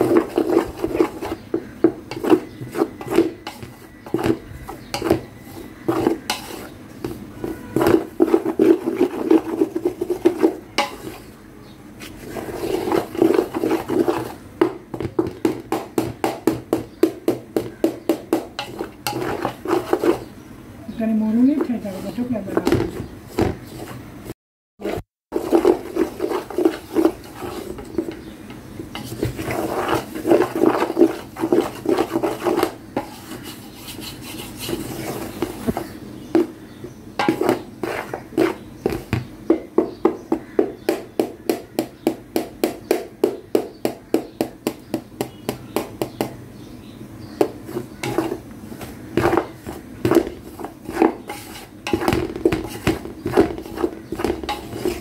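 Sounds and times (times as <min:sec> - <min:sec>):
spatula scraping metal pot: 0:00.0 - 0:20.4, 0:21.0 - 0:24.2, 0:24.8 - 0:36.6, 0:37.2 - 0:39.1, 0:47.4 - 0:55.0.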